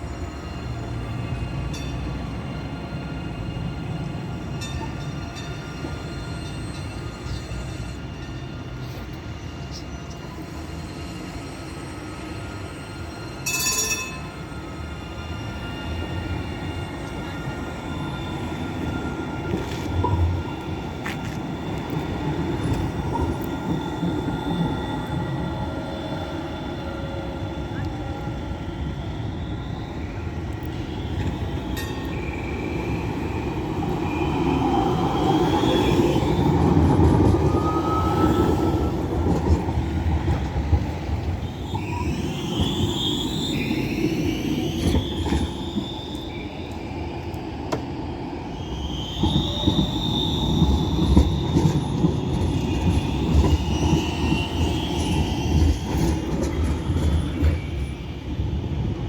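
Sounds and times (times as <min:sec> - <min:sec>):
tram rumbling on track: 0:00.0 - 0:59.0
tram wheels squealing: 0:00.0 - 0:59.0.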